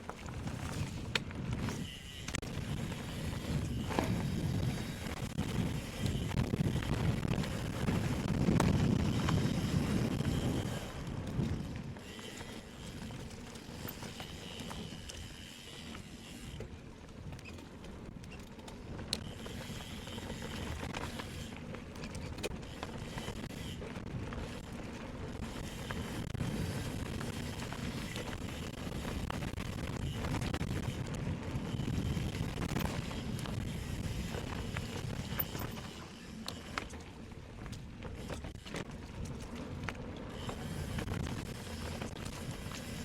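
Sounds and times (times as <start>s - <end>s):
bike rattles and clicks: 0.0s - 43.0s
bike tyres rolling on dirt: 0.0s - 43.0s
wind rumbling on microphone: 0.0s - 43.0s.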